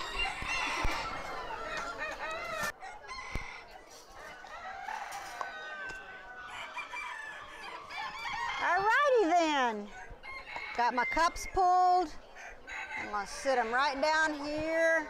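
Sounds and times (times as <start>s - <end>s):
chickens clucking and crowing: 0.0s - 15.0s.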